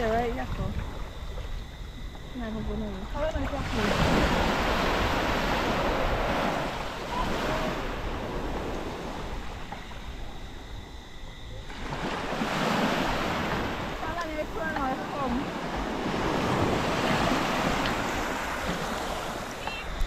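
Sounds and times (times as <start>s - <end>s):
wind buffeting microphone: 0.0s - 11.5s, 12.2s - 20.0s
sea surf washing up beach: 2.6s - 10.9s, 11.7s - 20.0s.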